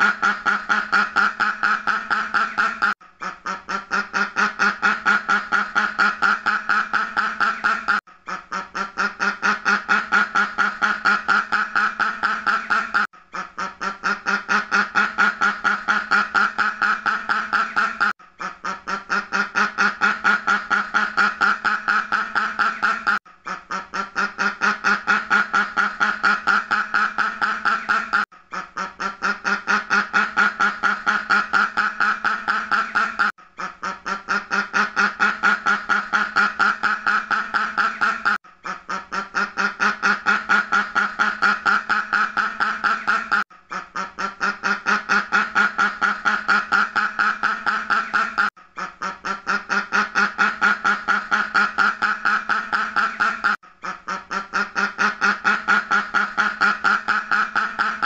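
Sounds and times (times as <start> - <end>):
duck quacking rapidly: 0.0 - 58.0.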